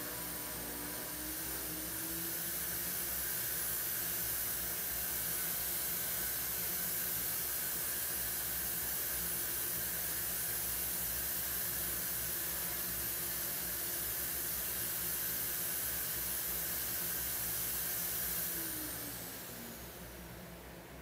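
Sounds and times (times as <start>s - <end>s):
household motor humming: 0.0s - 21.0s.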